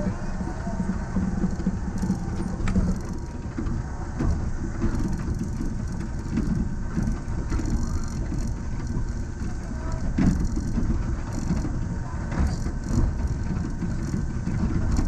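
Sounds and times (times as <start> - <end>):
low rumble of train cab: 0.0 - 15.0
short clicks and rattles: 0.8 - 15.0.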